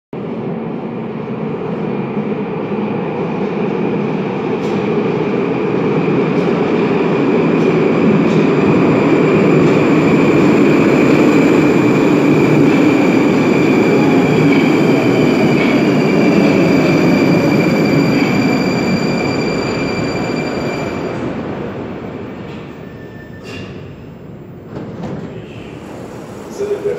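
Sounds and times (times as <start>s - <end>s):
train wheels rumbling: 2.7s - 26.9s.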